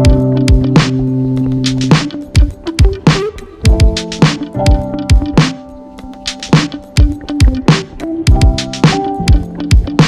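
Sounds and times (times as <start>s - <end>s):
electronic music with kick drums: 0.0s - 10.0s.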